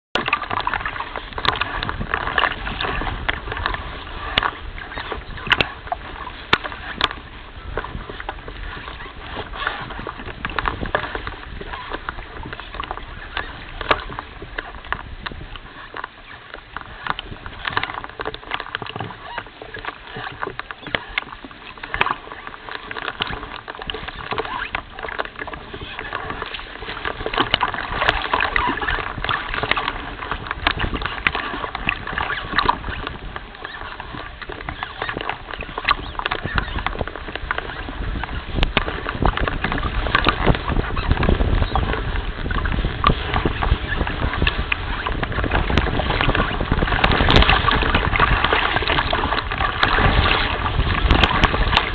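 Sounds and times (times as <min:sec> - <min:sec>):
water lapping and crackling: 0:00.0 - 0:51.9
wind rumble on microphone: 0:00.1 - 0:51.9.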